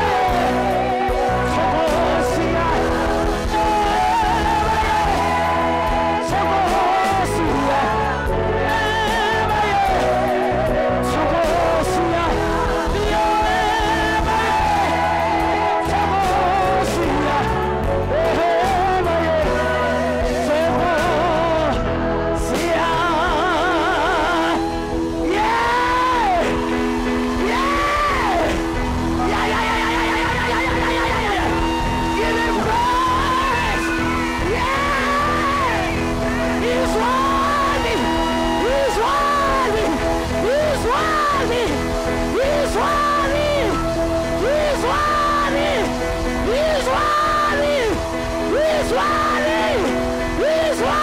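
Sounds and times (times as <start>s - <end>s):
band playing: 0.0s - 51.0s
choir singing praise chorus: 0.0s - 51.0s.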